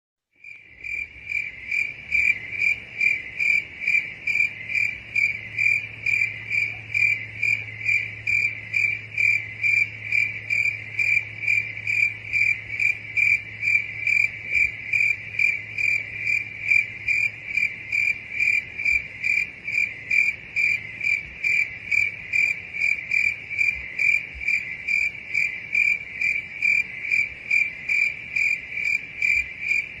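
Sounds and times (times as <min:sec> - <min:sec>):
cricket chirping: 0:00.4 - 0:30.0.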